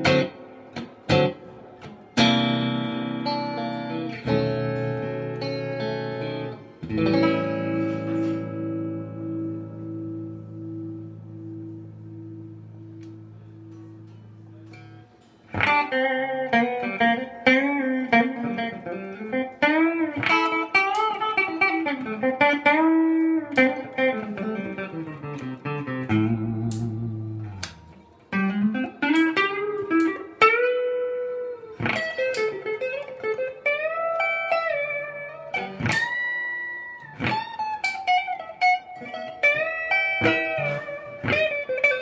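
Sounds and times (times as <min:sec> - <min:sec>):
electric guitar through an amp: 0:00.0 - 0:42.0.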